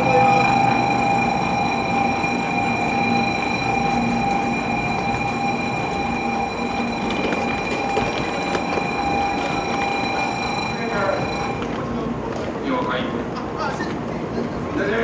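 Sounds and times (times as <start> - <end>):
train rumbling with high whine: 0.0 - 15.0.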